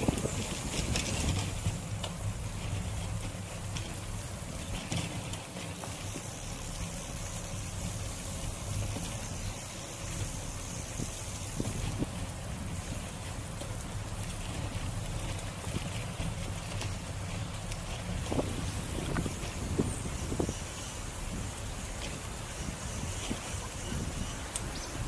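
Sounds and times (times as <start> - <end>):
wind rushing over microphone: 0.0 - 5.4, 7.6 - 25.0
bicycle tyre rumble: 0.0 - 25.0
bike rattling: 0.0 - 25.0.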